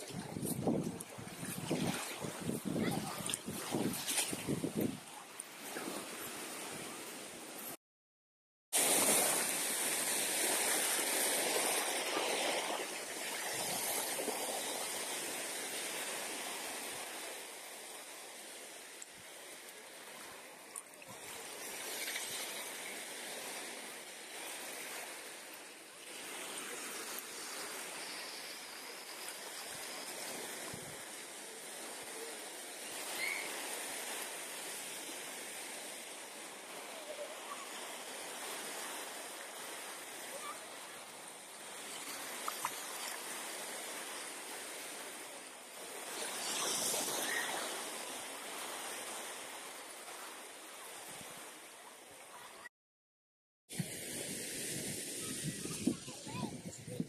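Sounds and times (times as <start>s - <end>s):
waves breaking on beach: 0.0s - 7.8s, 8.7s - 52.7s, 53.7s - 57.0s.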